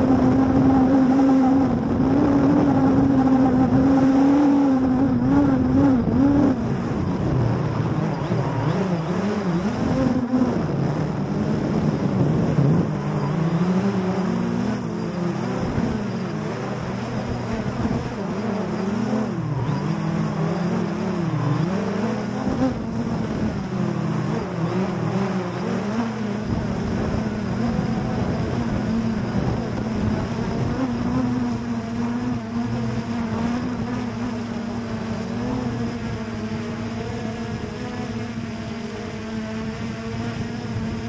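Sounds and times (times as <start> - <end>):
drone propellers buzzing: 0.0 - 41.0.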